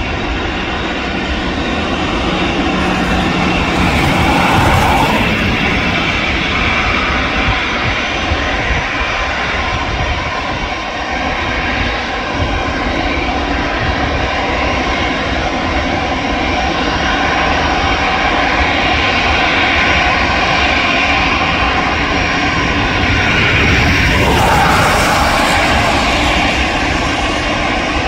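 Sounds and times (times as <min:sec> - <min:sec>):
airliner engines roaring: 0:00.0 - 0:28.0.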